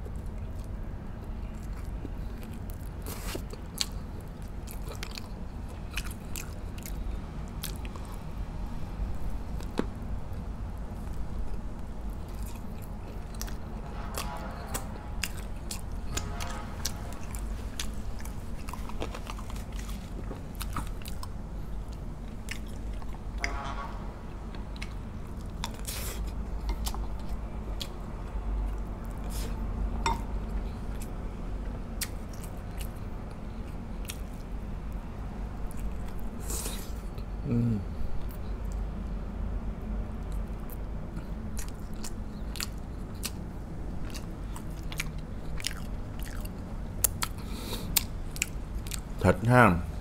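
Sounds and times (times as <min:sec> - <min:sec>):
person chewing ribs: 0:00.0 - 0:23.6, 0:24.4 - 0:35.0, 0:35.6 - 0:39.0, 0:40.2 - 0:49.5
steady low hum: 0:00.0 - 0:50.0.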